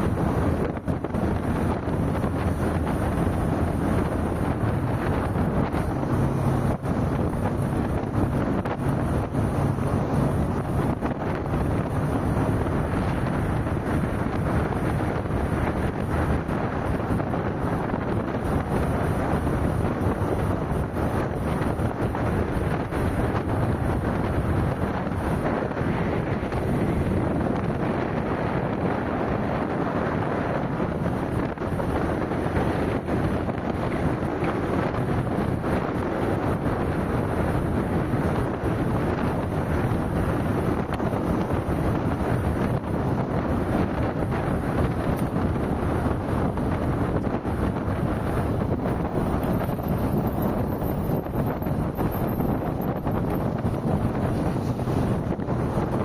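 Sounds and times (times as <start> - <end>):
low engine hum: 0.0 - 56.0
road noise: 0.0 - 56.0
wind buffeting microphone: 0.0 - 56.0.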